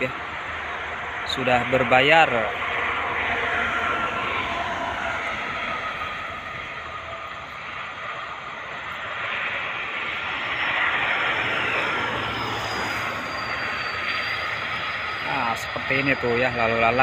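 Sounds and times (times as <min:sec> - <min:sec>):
traffic passing: 0:00.0 - 0:17.0.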